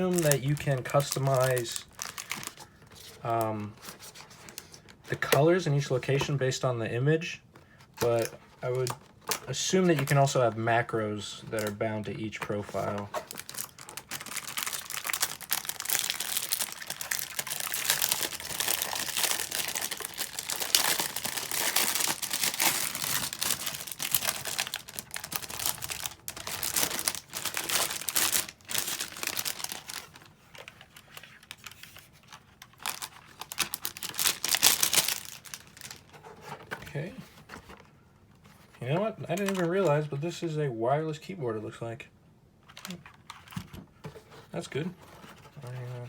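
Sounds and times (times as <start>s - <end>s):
packaging crinkling and rustling: 0.0s - 6.6s, 7.6s - 40.2s, 42.7s - 46.0s.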